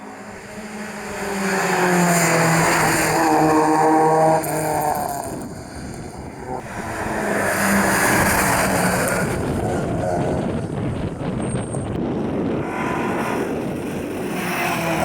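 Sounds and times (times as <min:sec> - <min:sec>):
car engine and tyre noise: 0:00.0 - 0:15.0
rally car engine at high revs: 0:00.0 - 0:15.0.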